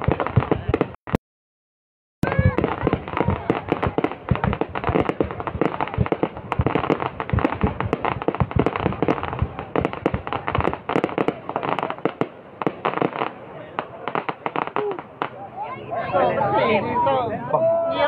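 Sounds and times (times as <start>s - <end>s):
fireworks crackling and banging: 0.0s - 1.2s, 2.2s - 15.9s.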